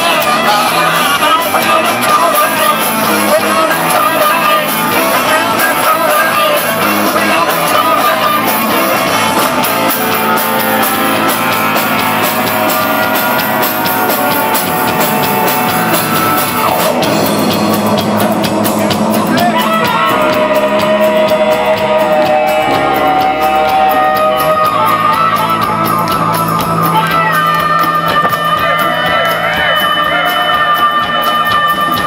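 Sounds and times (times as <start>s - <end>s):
bass guitar: 0.0s - 32.0s
drum kit: 0.0s - 32.0s
electric guitar: 0.0s - 32.0s
man singing: 0.0s - 32.0s.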